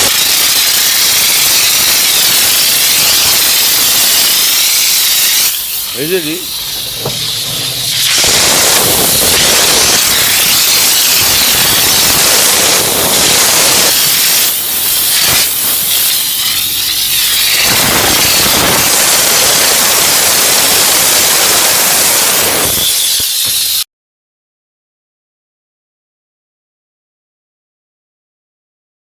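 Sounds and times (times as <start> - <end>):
steam cleaner jet hissing: 0.0 - 23.8.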